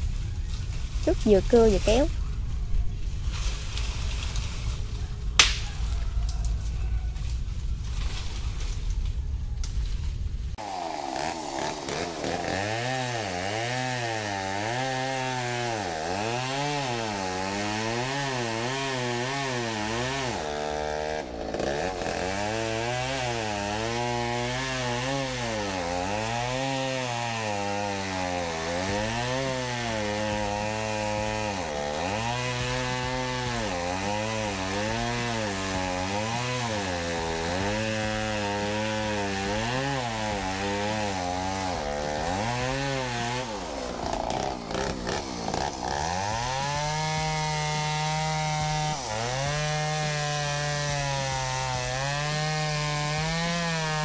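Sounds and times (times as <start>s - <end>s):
chainsaw cutting wood: 0.9s - 2.1s, 3.4s - 6.5s, 10.6s - 54.0s.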